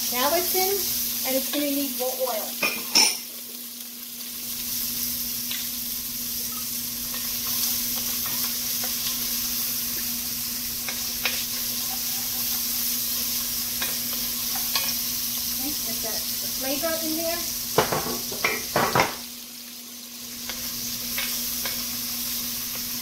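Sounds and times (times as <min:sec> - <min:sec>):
onions and garlic sizzling in oil: 0:00.0 - 0:23.0.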